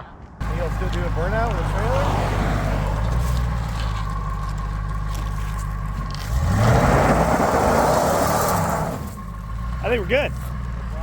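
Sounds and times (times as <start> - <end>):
truck engine revving: 0.4 - 11.0.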